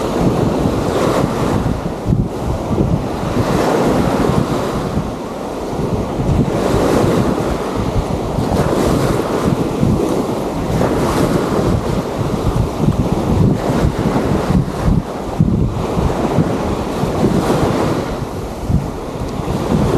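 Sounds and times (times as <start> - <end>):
sea waves on shore: 0.0 - 19.9
wind buffeting microphone: 0.0 - 19.9.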